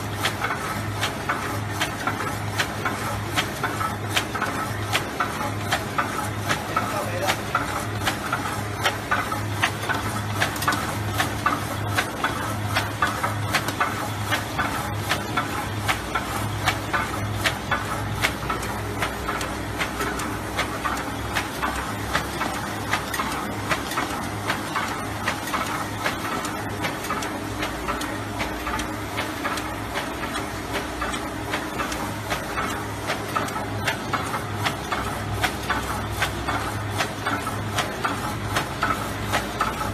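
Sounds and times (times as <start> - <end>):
tray forming machine clattering: 0.0 - 39.9.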